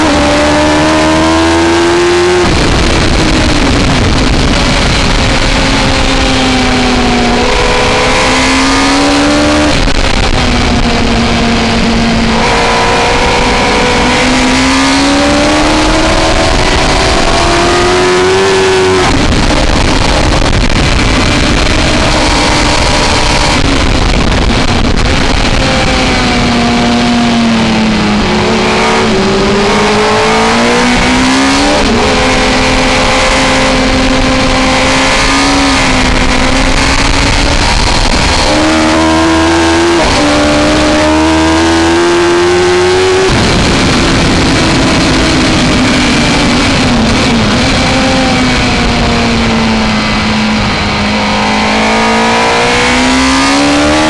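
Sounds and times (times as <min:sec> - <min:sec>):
heavy wind rush: 0:00.0 - 0:54.0
motorcycle engine at racing speed: 0:00.0 - 0:54.0.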